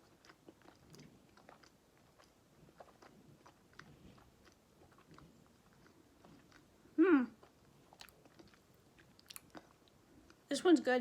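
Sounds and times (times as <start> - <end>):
person chewing cookie: 0.0 - 10.5.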